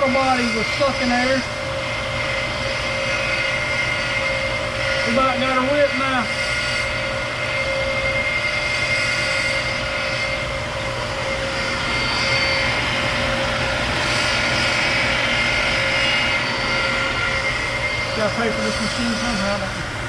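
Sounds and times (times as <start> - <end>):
metal cutting noise: 0.0 - 20.0
milling machine whine: 0.0 - 20.0.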